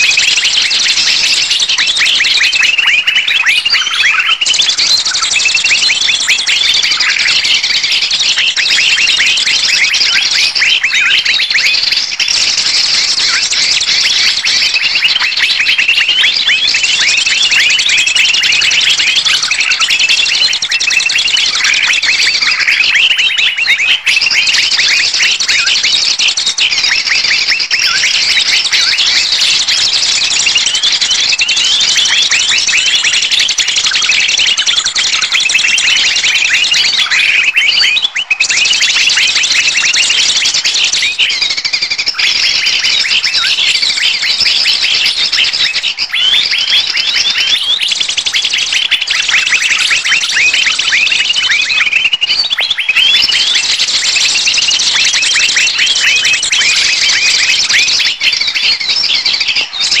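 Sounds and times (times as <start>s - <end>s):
small birds chirping and scolding: 0.0s - 60.0s.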